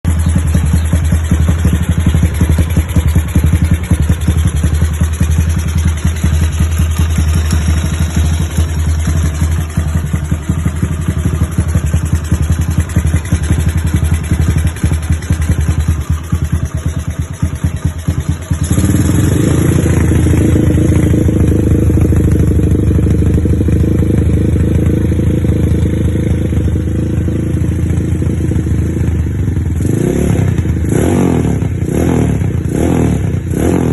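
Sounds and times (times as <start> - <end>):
motorcycle engine idling choppily: 0.0 - 33.9
high-revving engine drone: 0.1 - 33.9.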